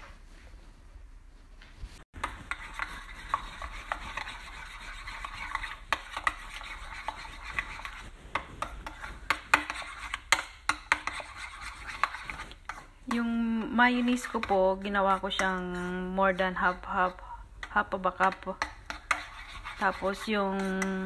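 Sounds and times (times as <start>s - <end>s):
spoon scraping thick dressing: 2.2s - 21.0s.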